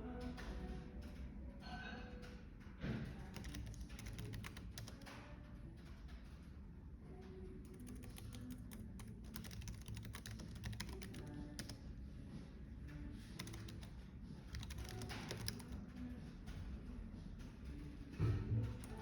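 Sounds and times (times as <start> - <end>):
typing on a computer keyboard: 0.0 - 1.4, 2.2 - 11.9, 12.8 - 16.8, 17.4 - 19.0.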